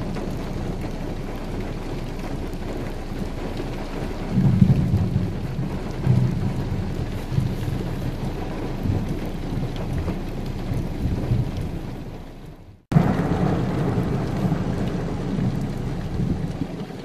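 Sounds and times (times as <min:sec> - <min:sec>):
steady rain on a car: 0:00.0 - 0:17.0
thunder rumbling: 0:00.0 - 0:17.0.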